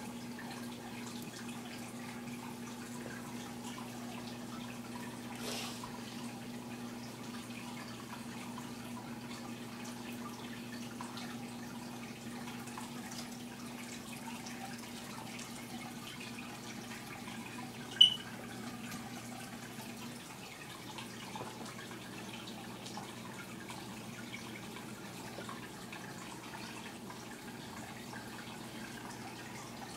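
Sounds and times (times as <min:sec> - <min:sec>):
water trickling and dripping: 0:00.0 - 0:29.9.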